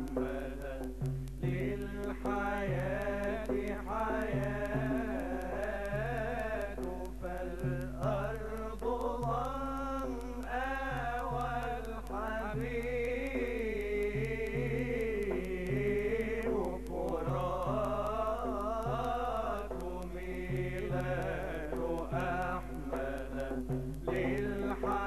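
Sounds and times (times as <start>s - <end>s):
men singing together: 0.0s - 25.0s.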